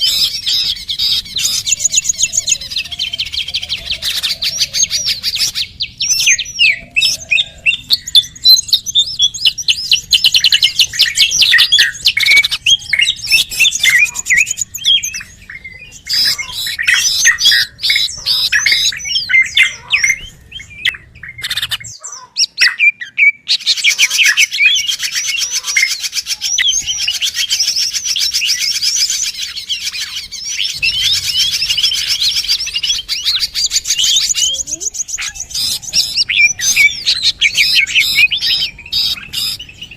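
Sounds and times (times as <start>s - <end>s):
small songbirds twittering: 0.0s - 39.9s.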